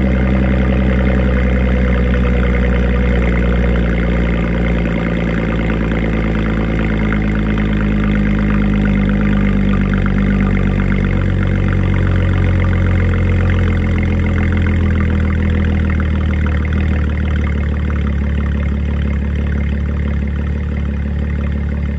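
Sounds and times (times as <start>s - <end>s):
car engine idling through exhaust: 0.0s - 21.9s.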